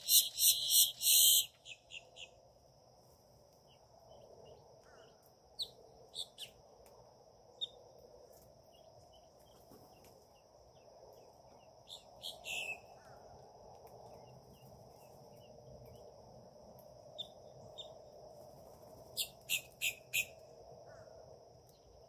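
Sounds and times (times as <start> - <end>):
small birds chirping: 0.0 - 2.5, 3.5 - 6.6, 7.5 - 16.3, 17.1 - 22.0.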